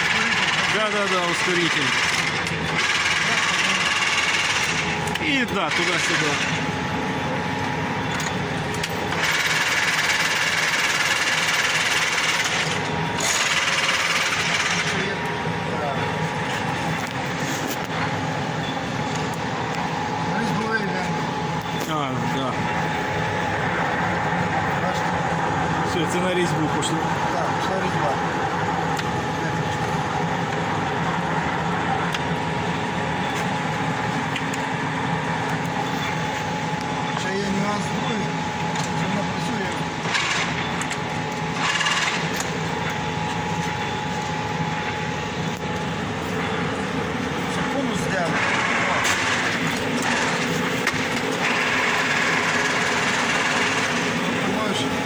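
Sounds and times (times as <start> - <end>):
metal lathe running: 0.0 - 55.0.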